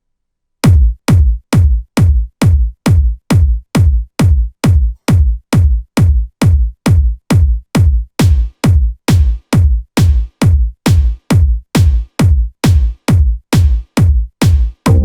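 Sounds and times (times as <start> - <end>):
electronic kick drum beat: 0.6 - 15.0.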